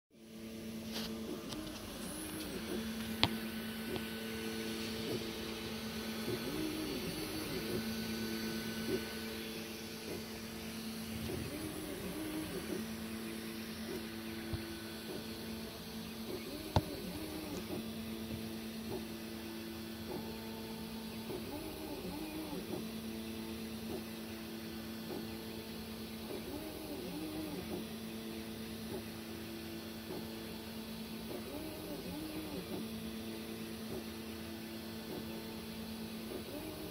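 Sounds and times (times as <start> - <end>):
stepper motors humming: 0.2 - 36.9.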